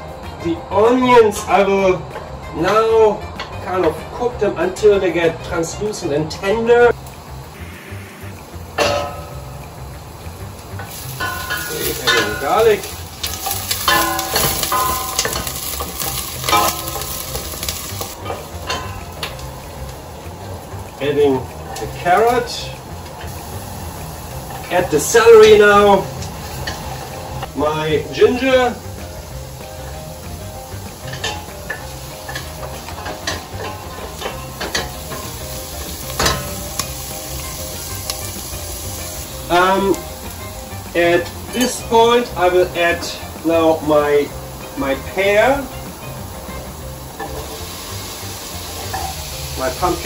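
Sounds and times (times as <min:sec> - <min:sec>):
light sizzle in oil: 0:06.9 - 0:50.0.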